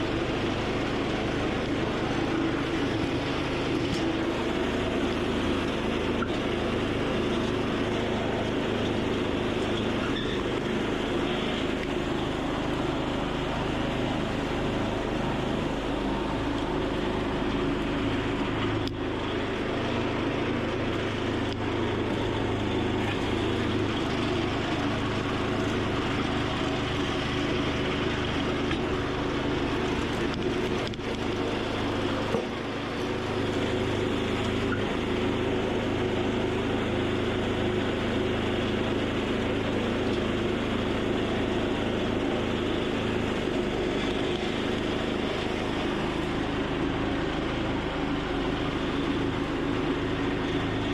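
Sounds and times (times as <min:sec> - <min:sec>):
small engine running: 0:00.0 - 0:50.9.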